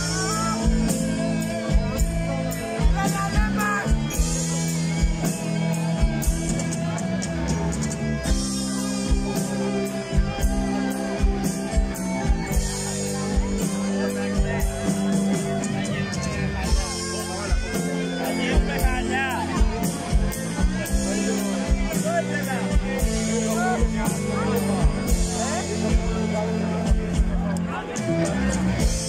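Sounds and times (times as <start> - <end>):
drum kit steady beat: 0.0 - 29.0
rock band playing: 0.0 - 29.0.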